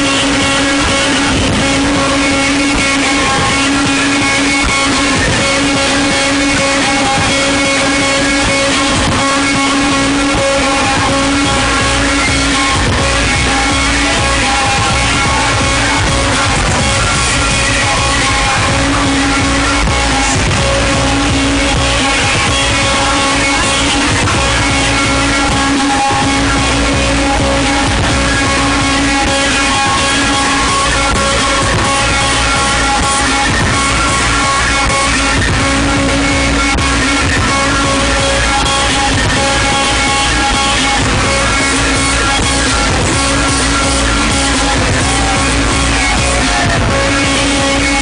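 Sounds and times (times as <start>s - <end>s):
loud guitar music from car speakers: 0.0s - 48.0s.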